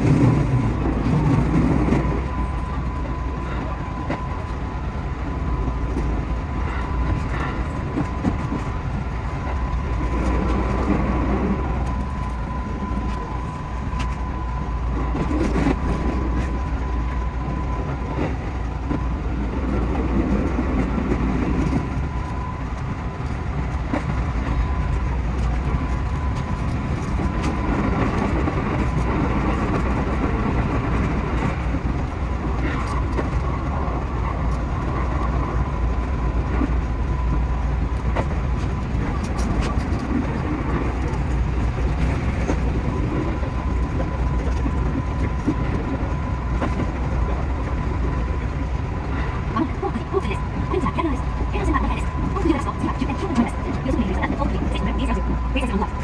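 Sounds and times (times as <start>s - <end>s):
electric train running: 0.0s - 56.0s.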